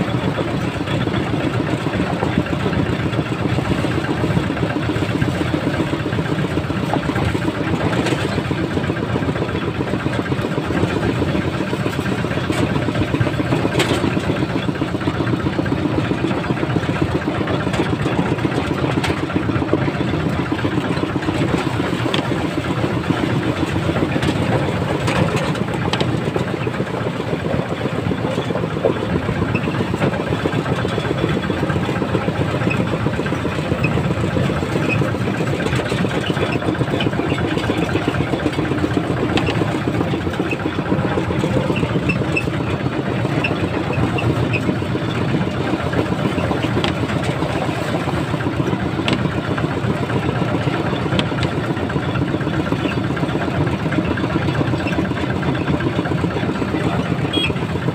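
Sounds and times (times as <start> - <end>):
small motorcycle engine running: 0.0 - 57.9.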